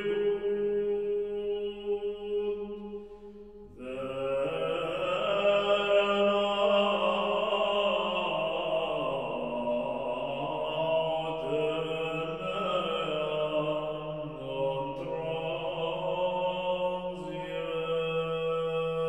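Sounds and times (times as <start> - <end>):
slow chanting voices: 0.0 - 19.0.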